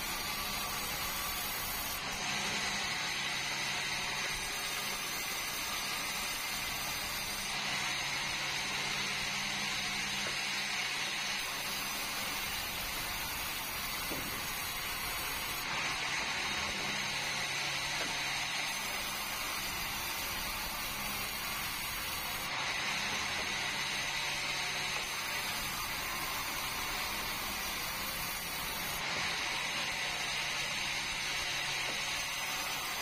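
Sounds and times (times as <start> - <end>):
sawmill saw running: 0.0 - 33.0.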